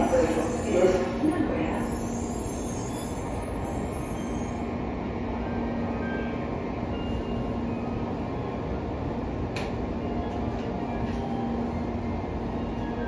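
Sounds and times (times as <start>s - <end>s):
station noise: 0.0s - 13.0s
train equipment hum: 0.0s - 13.0s.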